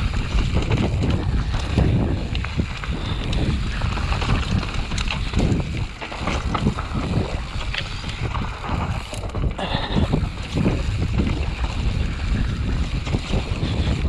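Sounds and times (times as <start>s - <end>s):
bicycle rattling over rough ground: 0.0s - 14.0s
wind buffeting microphone: 0.0s - 14.0s.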